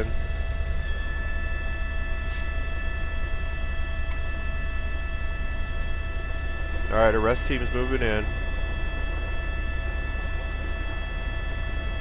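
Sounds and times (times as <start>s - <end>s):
helicopter rotor and engine rumble: 0.0s - 12.0s
high turbine whine: 0.0s - 12.0s.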